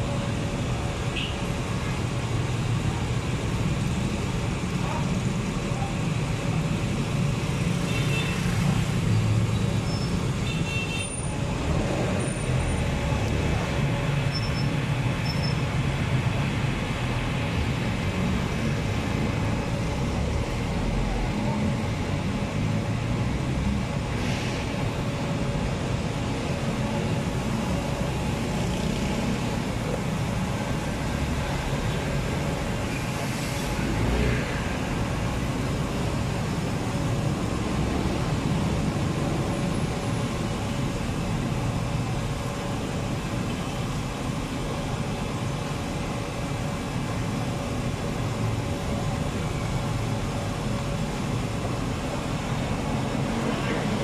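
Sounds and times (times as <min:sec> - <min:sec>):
street traffic rumble: 0:00.0 - 0:54.0.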